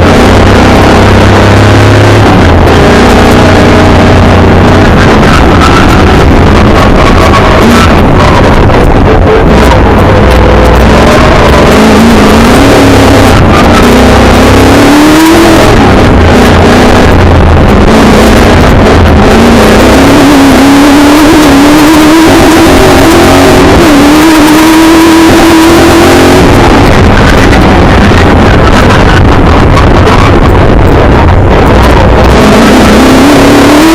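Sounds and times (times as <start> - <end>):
racing car engine at full throttle: 0.0 - 33.9.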